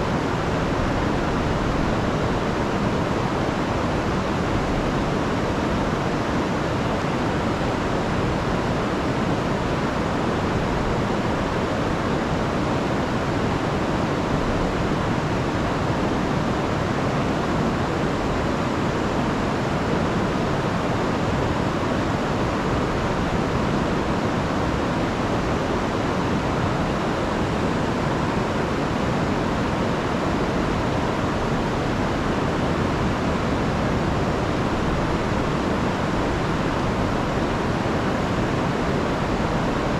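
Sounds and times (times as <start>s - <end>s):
river roaring over falls: 0.0s - 39.9s.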